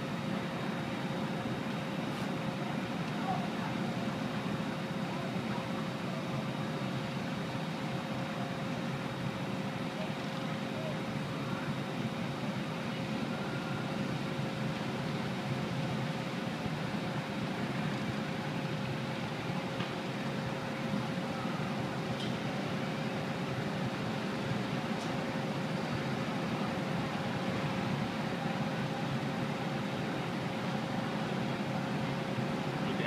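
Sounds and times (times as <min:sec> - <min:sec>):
mechanical hum with whine: 0:00.0 - 0:33.0.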